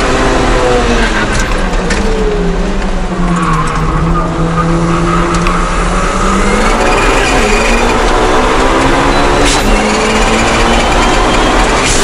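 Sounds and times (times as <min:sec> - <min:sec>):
small car engine from inside cabin: 0:00.0 - 0:12.0.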